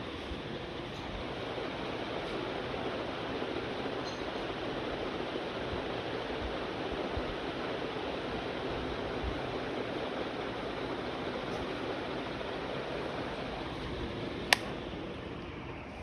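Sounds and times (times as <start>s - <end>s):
ceiling fan air rush: 0.0s - 15.9s.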